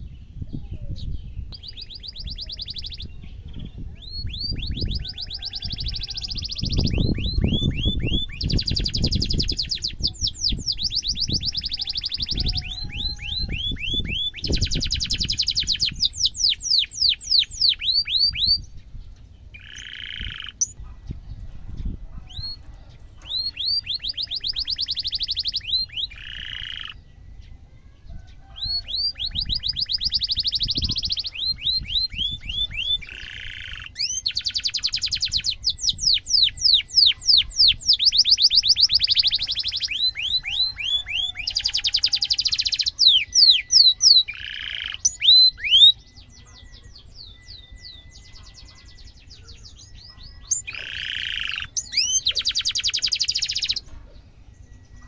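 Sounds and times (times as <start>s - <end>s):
canary trilling: 1.6s - 3.2s, 4.0s - 18.6s, 19.5s - 20.8s, 22.2s - 27.0s, 28.2s - 54.0s.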